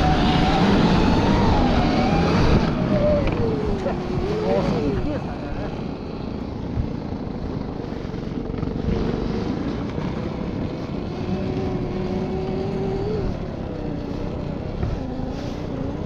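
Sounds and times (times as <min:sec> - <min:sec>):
electric motor whine: 0:00.0 - 0:16.0
rumbling drive through snow: 0:00.0 - 0:16.0.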